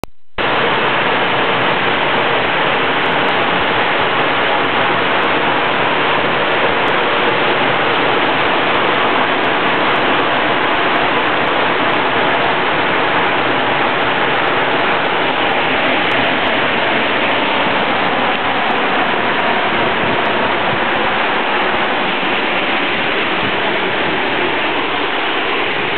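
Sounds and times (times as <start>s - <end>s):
waterfall rushing: 0.4s - 25.9s.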